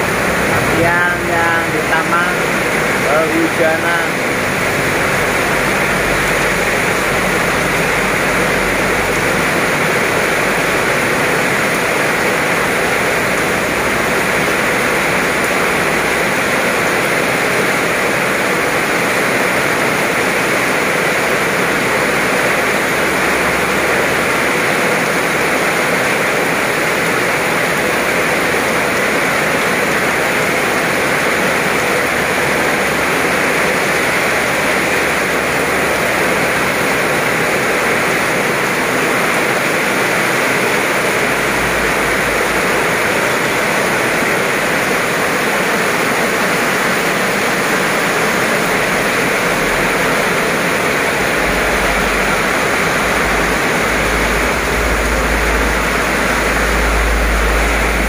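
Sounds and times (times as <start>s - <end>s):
heavy rain on road: 0.0s - 58.0s.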